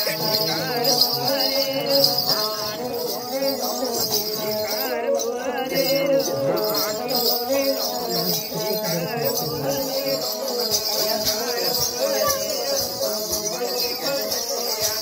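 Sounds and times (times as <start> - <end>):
bells and rattles jingling: 0.0 - 15.0
person singing wavering melody: 0.0 - 15.0
sustained accompaniment: 0.0 - 15.0.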